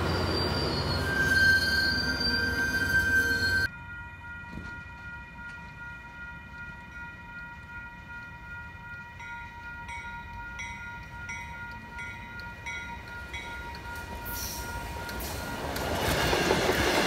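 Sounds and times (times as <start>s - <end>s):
low train rumble: 0.0s - 17.0s
railroad crossing bell ringing: 0.0s - 17.0s.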